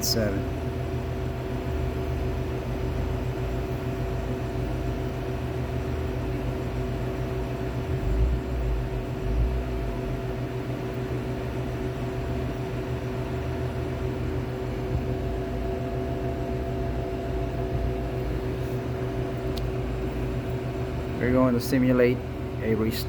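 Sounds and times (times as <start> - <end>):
compressor humming: 0.0 - 23.0.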